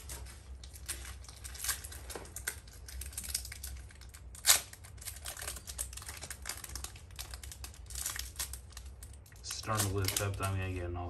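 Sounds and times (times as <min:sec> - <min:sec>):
cards clicking and rustling: 0:00.0 - 0:10.8.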